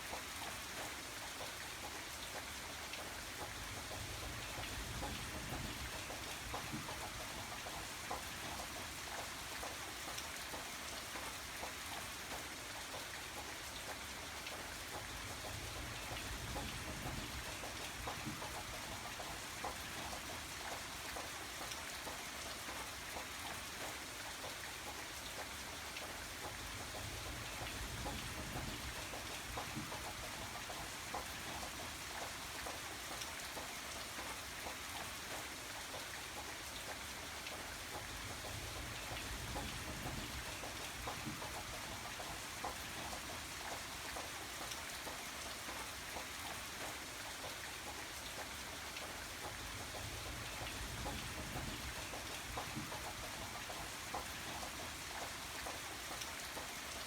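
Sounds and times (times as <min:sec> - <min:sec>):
rain falling: 0:00.0 - 0:57.0
raindrops pattering on a surface: 0:00.0 - 0:57.0.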